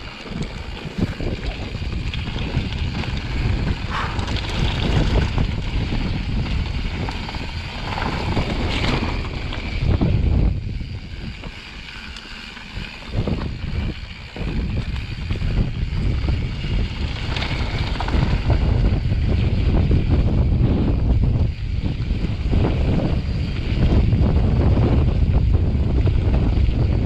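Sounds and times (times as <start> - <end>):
bike rattling: 0.0 - 27.0
wind rumbling on microphone: 0.0 - 27.0.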